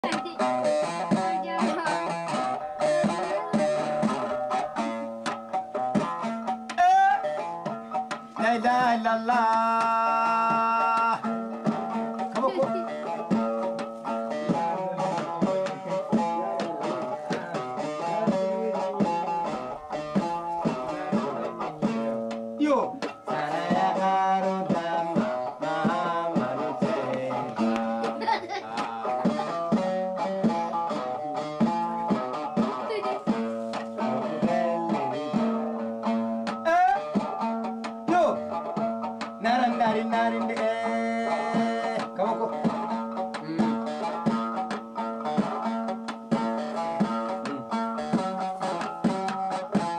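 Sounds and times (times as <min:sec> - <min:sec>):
plucked string instrument: 0:00.0 - 0:49.9.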